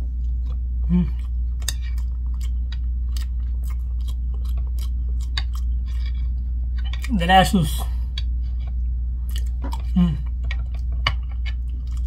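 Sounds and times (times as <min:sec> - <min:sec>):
low hum: 0:00.0 - 0:12.0
person chewing: 0:00.0 - 0:12.0.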